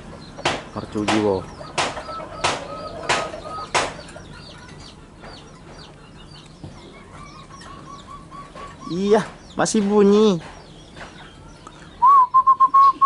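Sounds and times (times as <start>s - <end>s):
dove calling: 0.0s - 13.0s
small birds chirping: 0.0s - 13.0s.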